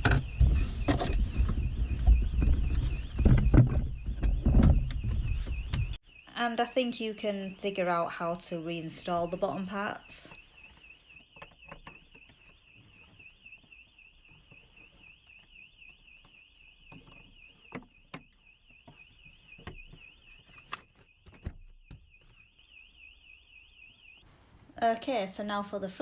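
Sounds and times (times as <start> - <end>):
faint car alarm warbling: 0.0 - 24.3.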